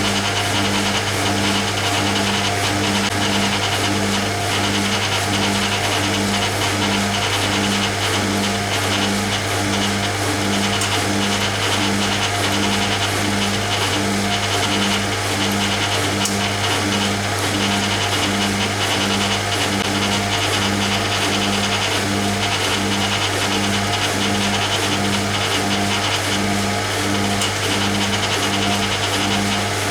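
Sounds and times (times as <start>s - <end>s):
washing machine draining hum: 0.0s - 29.9s.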